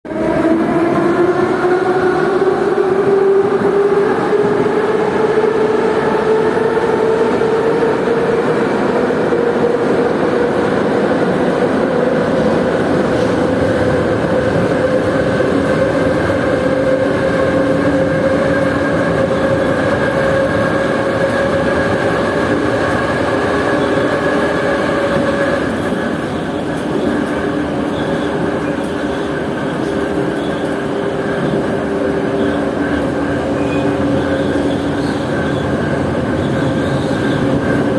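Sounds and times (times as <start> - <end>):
train rumble: 0.1 - 37.9.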